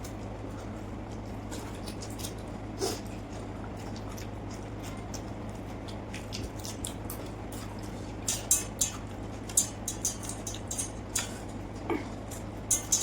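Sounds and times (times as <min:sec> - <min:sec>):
chewing and lip-smacking: 0:00.0 - 0:13.0.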